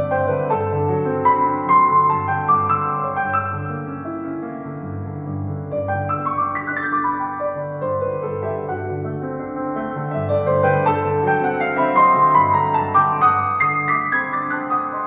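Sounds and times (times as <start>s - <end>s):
piano-led music: 0.0s - 15.0s.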